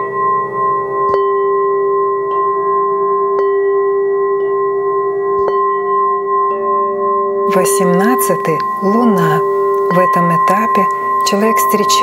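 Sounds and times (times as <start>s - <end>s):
singing bowl being struck: 0.0s - 12.0s
singing bowls ringing: 0.0s - 12.0s.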